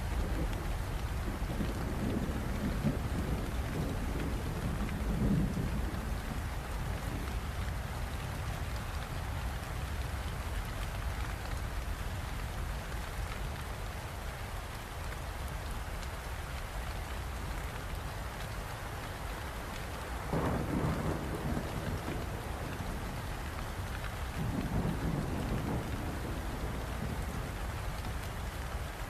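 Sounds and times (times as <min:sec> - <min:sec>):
steady rainfall: 0:00.0 - 0:29.0.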